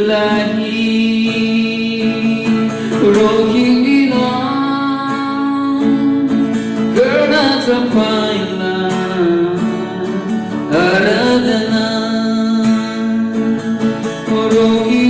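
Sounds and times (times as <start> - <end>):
person singing worship song: 0.0 - 15.0
strummed acoustic guitar: 0.0 - 15.0.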